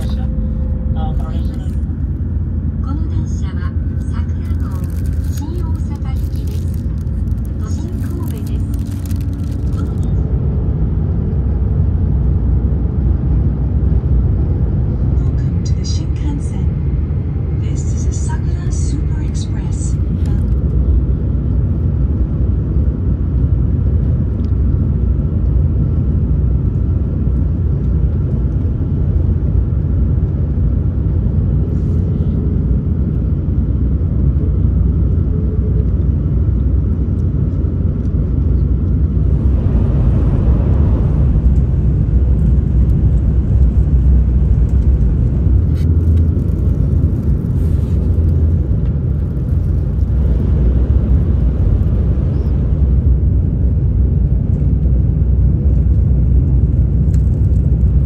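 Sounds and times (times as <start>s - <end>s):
train rumble inside cabin: 0.0s - 58.0s.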